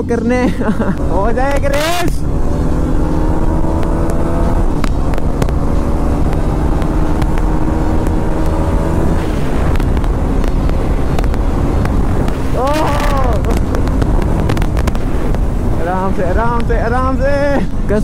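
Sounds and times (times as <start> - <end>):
motorcycle engine running: 0.0 - 18.0
wind rumble on microphone: 0.7 - 18.0.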